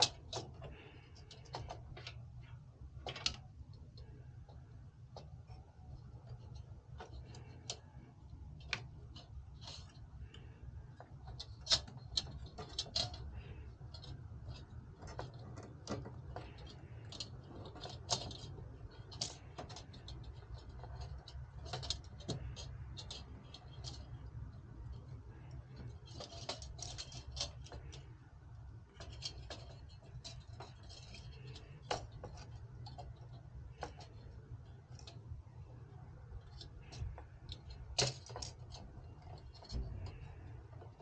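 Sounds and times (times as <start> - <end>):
small clicks and taps: 0.0 - 41.0
steady low hum: 0.0 - 41.0.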